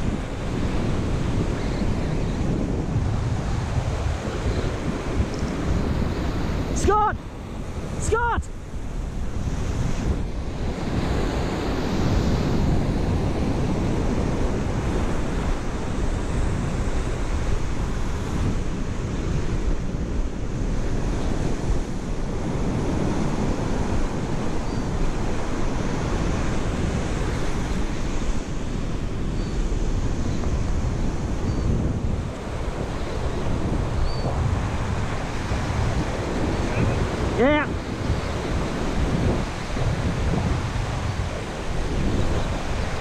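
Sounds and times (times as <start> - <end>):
ocean surf breaking: 0.0 - 43.0
wind buffeting microphone: 0.0 - 43.0.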